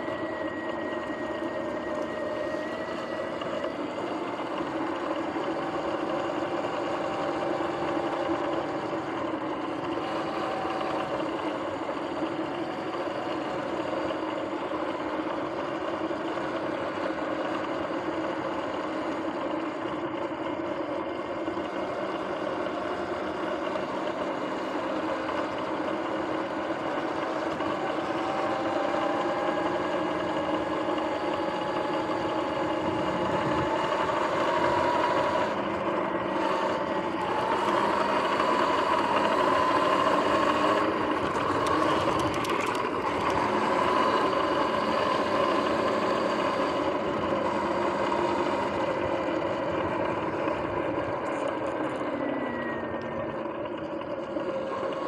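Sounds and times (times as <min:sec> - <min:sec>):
electric motor and chain whine: 0:00.0 - 0:55.0.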